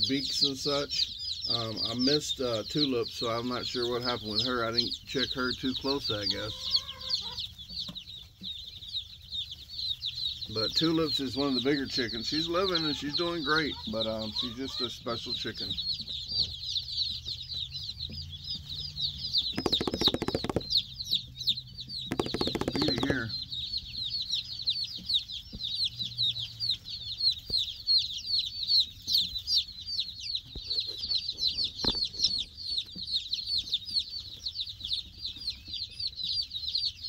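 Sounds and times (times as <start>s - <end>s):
baby chicks peeping: 0.0s - 37.0s.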